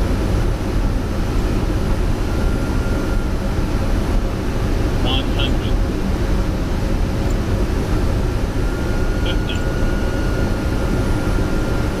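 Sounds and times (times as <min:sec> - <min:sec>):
aircraft cockpit rumble and roar: 0:00.0 - 0:12.0.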